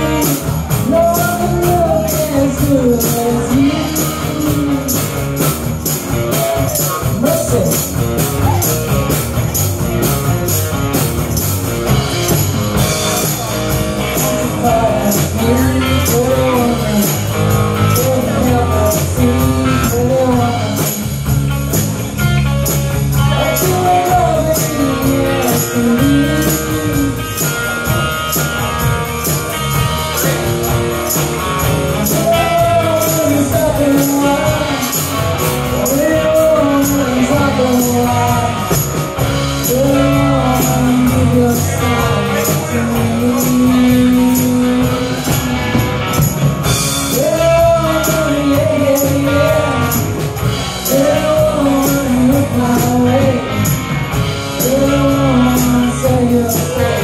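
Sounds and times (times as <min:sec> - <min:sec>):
rock band playing: 0:00.0 - 0:57.0
tambourine shaking: 0:00.0 - 0:57.0.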